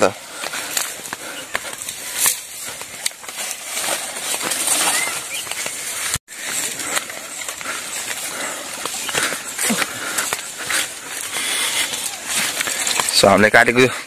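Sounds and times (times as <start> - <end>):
dry sticks rustling and crackling: 0.0 - 13.7.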